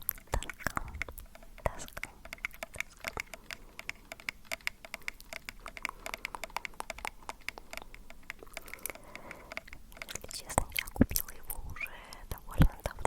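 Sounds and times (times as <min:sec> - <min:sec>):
wet mouth clicks and pops: 0:00.0 - 0:13.0.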